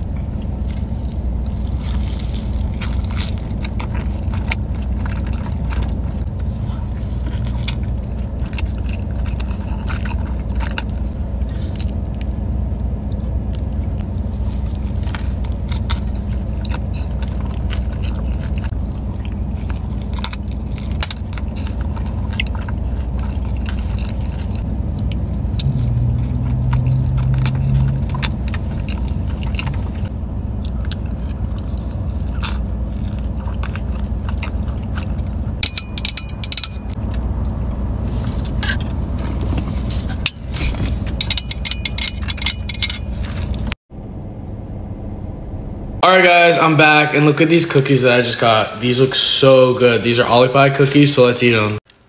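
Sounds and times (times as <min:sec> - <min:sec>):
close-up chewing: 0:00.0 - 0:43.8
car cabin hum: 0:00.0 - 0:46.9
low drone: 0:00.0 - 0:50.4.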